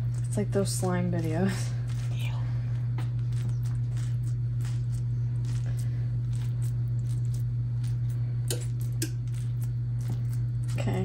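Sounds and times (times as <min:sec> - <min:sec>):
fingers squishing dough: 0:00.0 - 0:11.0
steady low hum: 0:00.0 - 0:11.0.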